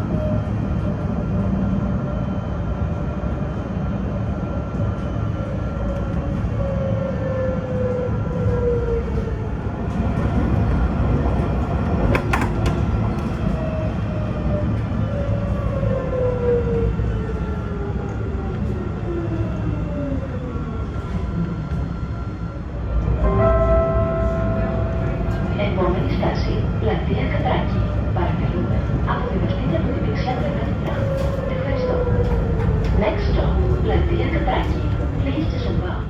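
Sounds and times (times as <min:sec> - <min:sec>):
tram rumbling on rails: 0:00.0 - 0:36.0.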